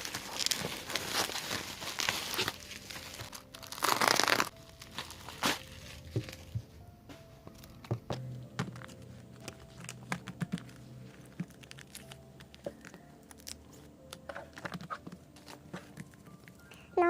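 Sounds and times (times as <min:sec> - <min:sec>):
hands handling plastic wrapping: 0:00.0 - 0:06.7, 0:07.4 - 0:16.8
faint music: 0:00.0 - 0:17.0.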